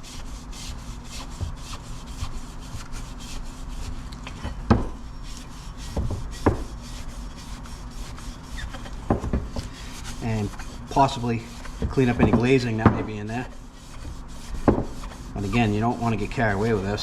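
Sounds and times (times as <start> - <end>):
scouring pad rubbing inside metal cylinder: 0.0 - 17.0.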